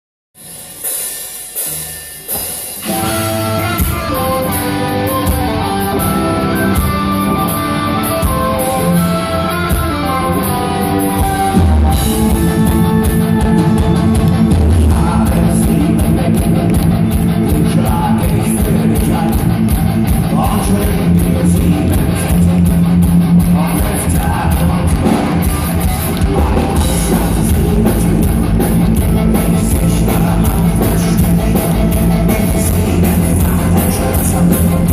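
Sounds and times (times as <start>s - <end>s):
drums: 0.4s - 34.9s
heavy guitars: 0.4s - 34.9s
metal band playing loud: 0.4s - 34.9s.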